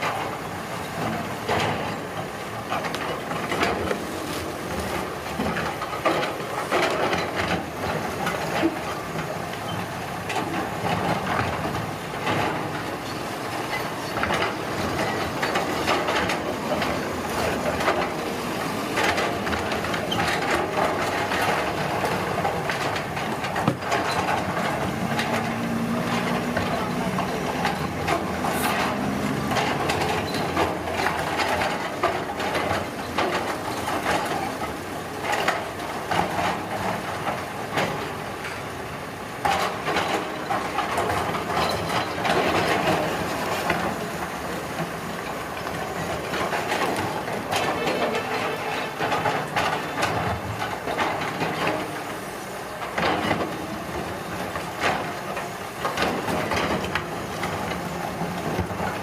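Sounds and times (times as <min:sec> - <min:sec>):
heavy machinery engines running: 0:00.0 - 0:59.0
knocks and clatters: 0:04.7 - 0:38.7, 0:39.4 - 0:59.0.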